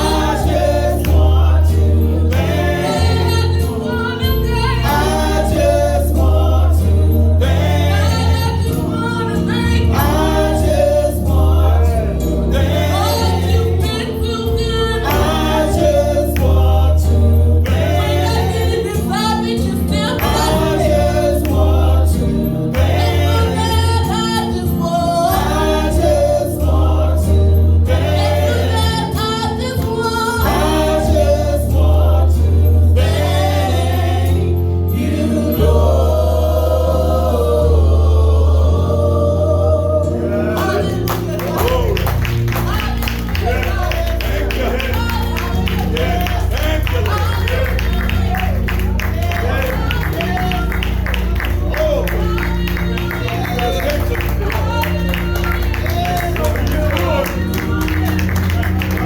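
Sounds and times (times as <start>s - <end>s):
bass: 0.0s - 59.0s
gospel choir singing: 0.0s - 59.0s
keyboard chords: 0.0s - 59.0s.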